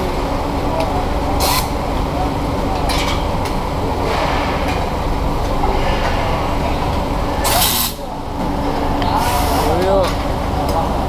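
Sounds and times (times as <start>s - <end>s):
workshop low rumble: 0.0s - 11.0s.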